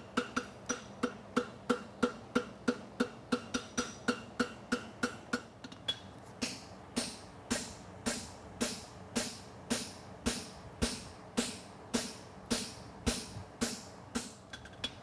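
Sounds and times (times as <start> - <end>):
hammer striking metal on anvil: 0.0 - 15.0.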